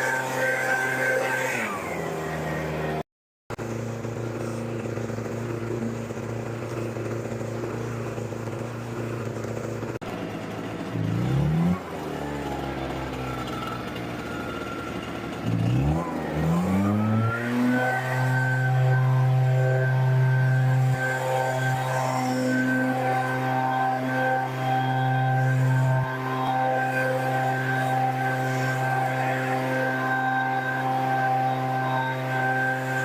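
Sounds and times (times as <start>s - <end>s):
small motor humming: 0.0s - 33.0s.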